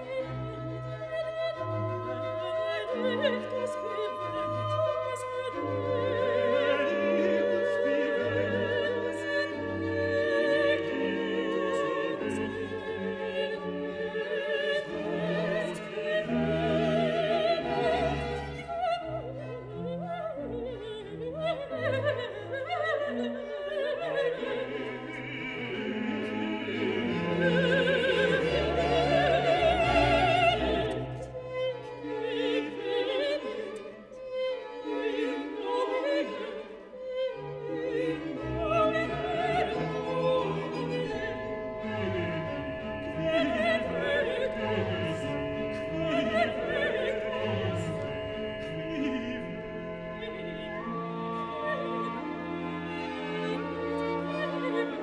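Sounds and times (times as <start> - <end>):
operatic singing with vibrato: 0.0 - 55.0
orchestra with strings: 0.0 - 55.0.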